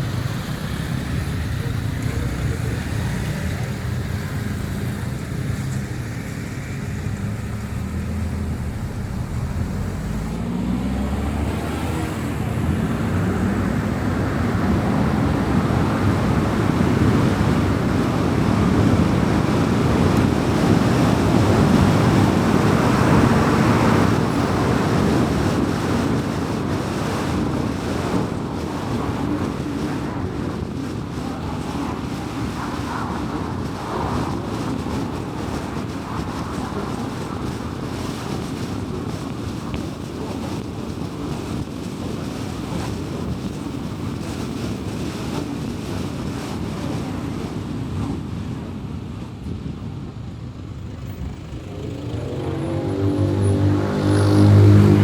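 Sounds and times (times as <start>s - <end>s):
car engine: 0.0s - 39.7s, 50.4s - 55.0s
tyre road noise: 0.0s - 55.0s.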